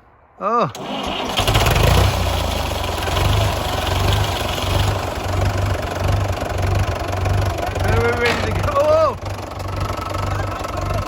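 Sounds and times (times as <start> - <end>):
tractor engine idling: 0.7 - 11.0.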